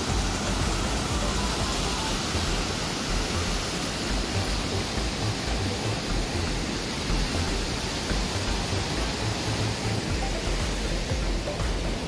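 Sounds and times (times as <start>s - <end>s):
waterfall rushing over boulders: 0.0s - 12.0s.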